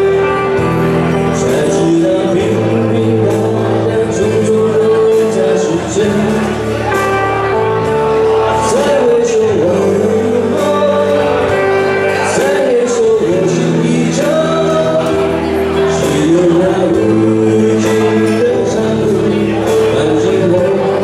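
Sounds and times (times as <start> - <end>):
live band with keyboard: 0.0 - 21.0
person singing: 0.0 - 21.0.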